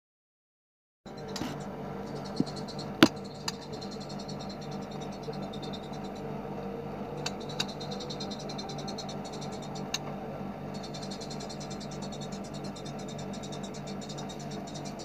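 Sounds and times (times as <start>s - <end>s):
songbird rapid trill: 1.1s - 15.0s
steady low hum: 1.1s - 15.0s.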